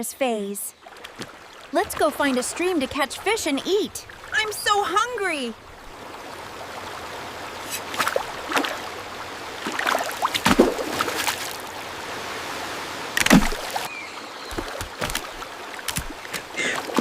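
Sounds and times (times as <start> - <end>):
running water: 0.2 - 17.0
water splashes: 0.7 - 17.0.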